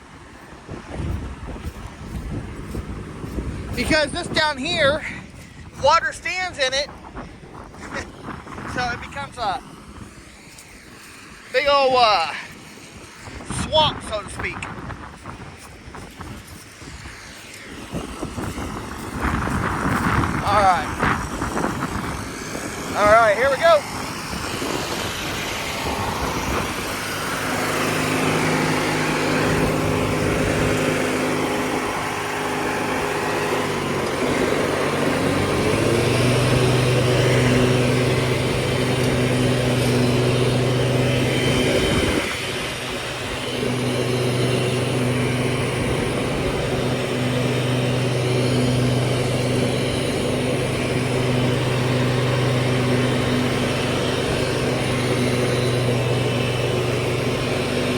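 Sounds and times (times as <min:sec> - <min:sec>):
riding lawnmower engine running: 0:00.0 - 0:57.9.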